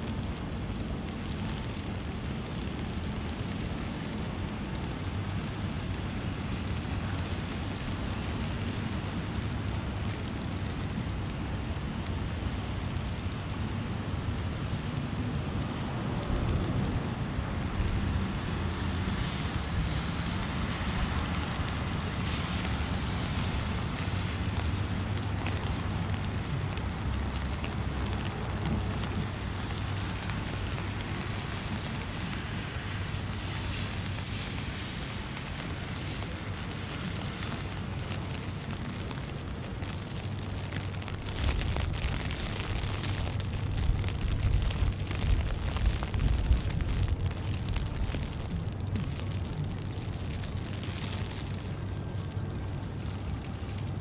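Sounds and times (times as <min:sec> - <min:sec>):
low traffic rumble: 0:00.0 - 0:54.0.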